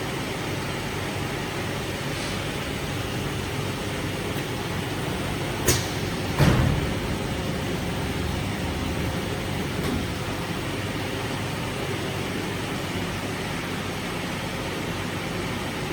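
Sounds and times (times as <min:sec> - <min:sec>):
welding machine hum and hiss: 0:00.0 - 0:14.6.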